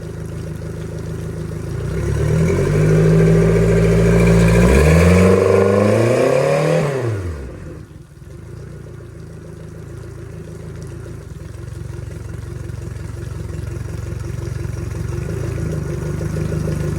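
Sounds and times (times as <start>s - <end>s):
outboard motor revving down and idling: 0.0s - 16.9s.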